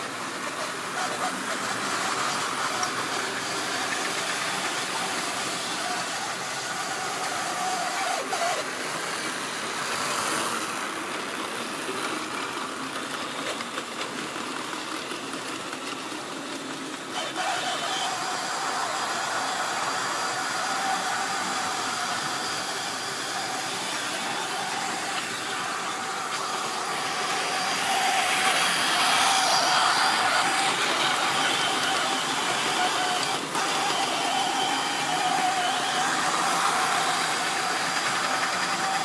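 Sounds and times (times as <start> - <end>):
wheels on rails: 0.0 - 39.0
whir of small electric motors: 0.0 - 39.0.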